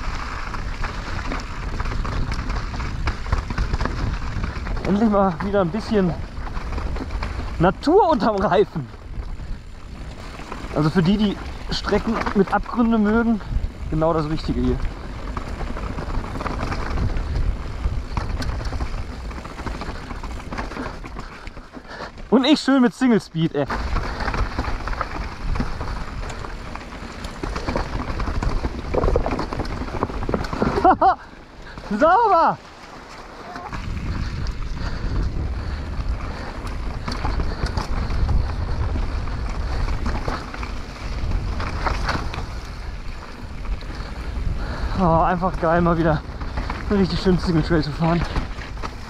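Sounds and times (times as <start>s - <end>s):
wind buffeting microphone: 0.0s - 22.3s, 23.3s - 32.8s, 33.4s - 49.0s
bike clicks and rattles: 0.0s - 49.0s
tyres rolling over dirt: 0.0s - 49.0s.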